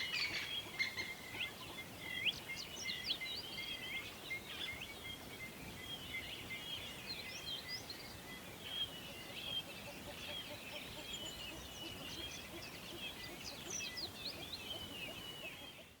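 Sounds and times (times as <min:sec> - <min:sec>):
songbirds singing and chirping: 0:00.0 - 0:16.0.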